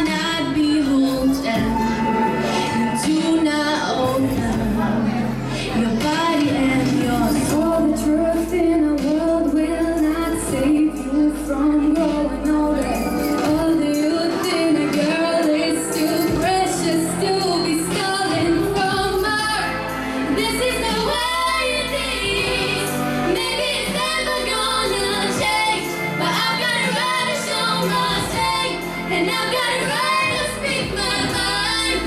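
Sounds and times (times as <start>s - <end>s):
girls singing into microphones: 0.0s - 32.0s
pop backing track: 0.0s - 32.0s.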